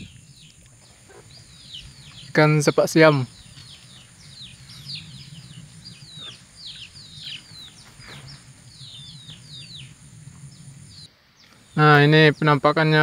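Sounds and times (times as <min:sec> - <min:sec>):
low hum: 0:00.0 - 0:11.8
birds chirping: 0:00.0 - 0:13.0.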